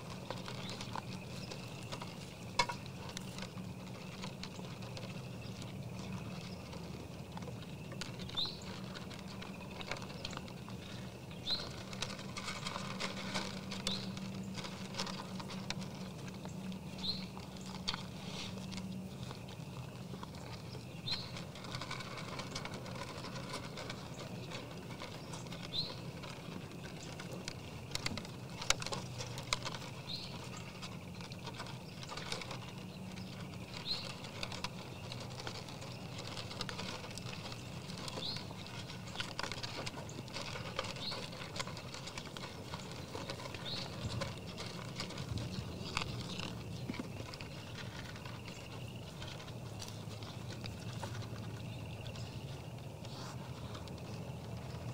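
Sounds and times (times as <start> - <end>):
deer crunching feed: 0.0 - 54.9.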